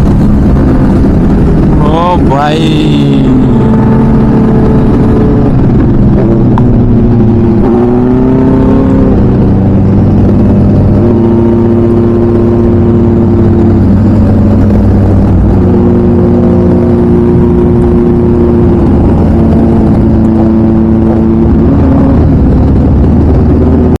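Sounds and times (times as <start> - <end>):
loud motorcycle engine revving: 0.0 - 24.0.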